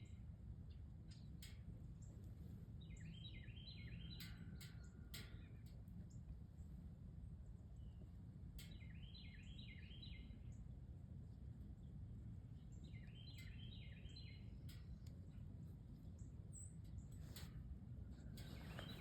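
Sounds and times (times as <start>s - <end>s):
low background rumble: 0.0s - 19.0s
songbird singing faintly: 0.0s - 19.0s.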